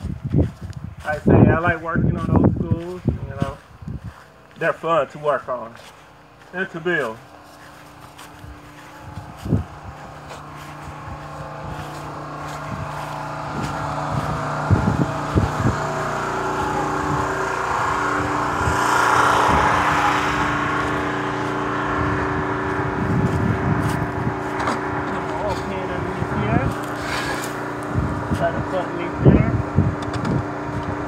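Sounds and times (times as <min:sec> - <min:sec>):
steady low hum: 0:00.0 - 0:31.0
motor vehicle passing: 0:05.8 - 0:31.0.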